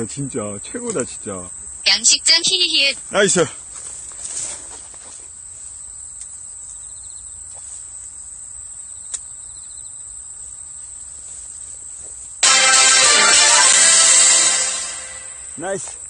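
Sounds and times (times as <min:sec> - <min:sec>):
insects chirring: 0:00.0 - 0:12.4, 0:13.6 - 0:16.0
insect trills: 0:00.0 - 0:16.0.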